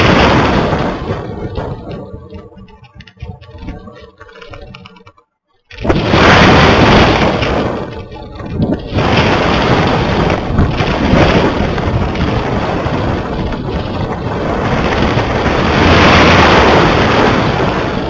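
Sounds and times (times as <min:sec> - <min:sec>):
wind rushing over microphone: 0:00.0 - 0:05.1, 0:05.7 - 0:18.0.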